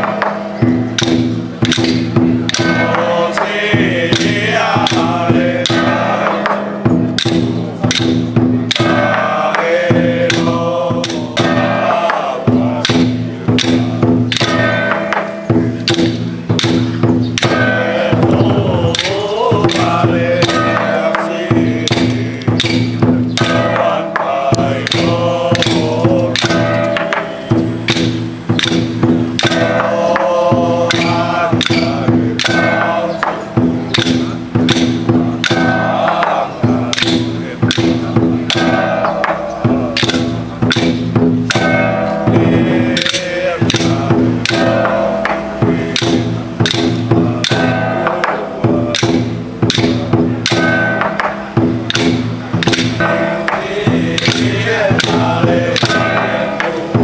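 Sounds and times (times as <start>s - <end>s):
chanting: 0.0s - 57.0s
percussion strikes: 0.0s - 57.0s
sustained instrument tones: 0.0s - 57.0s.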